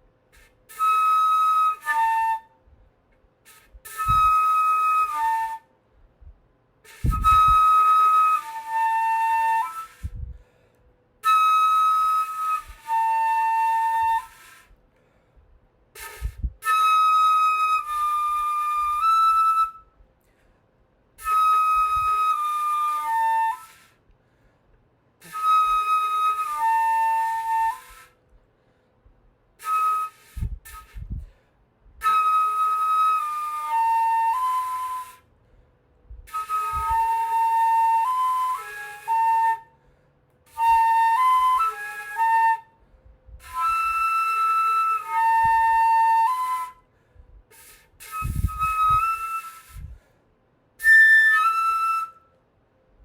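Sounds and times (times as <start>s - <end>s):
breathy flute notes: 0.3s - 2.9s, 3.5s - 52.8s.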